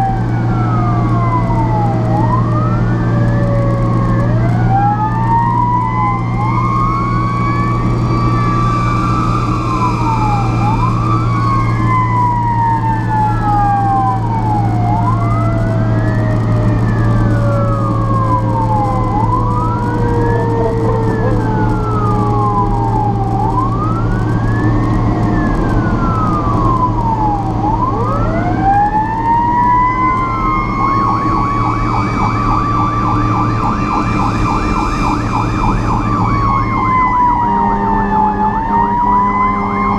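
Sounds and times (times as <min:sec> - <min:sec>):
electronic siren wailing: 0:00.0 - 0:39.9
fast siren warble: 0:00.0 - 0:39.9
fire truck engine drone: 0:00.0 - 0:39.9
siren winding down and up: 0:00.0 - 0:39.9.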